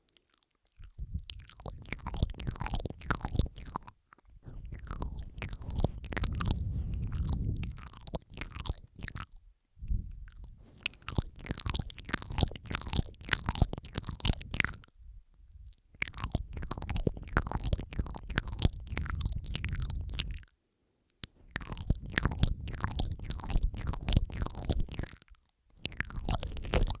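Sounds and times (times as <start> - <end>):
mouth clicks and smacks: 0.0 - 27.0.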